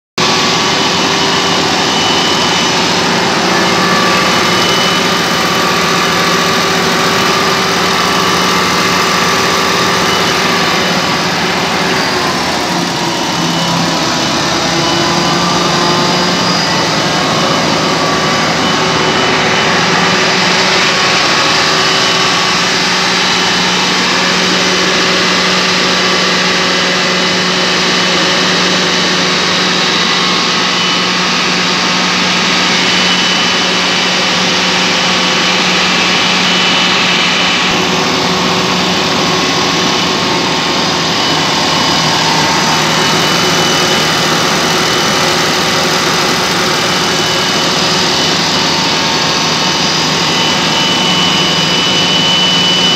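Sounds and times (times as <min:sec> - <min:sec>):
heavy engine running: 0:00.2 - 0:52.9.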